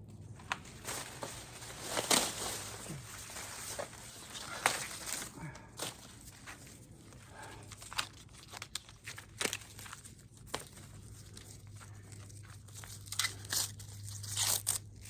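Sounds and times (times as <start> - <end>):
corn husks rustling and tearing: 0.2 - 15.0.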